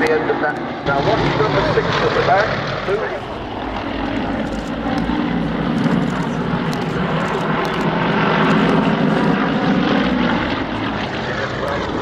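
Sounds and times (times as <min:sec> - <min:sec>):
propeller plane engine buzzing: 0:00.0 - 0:12.0.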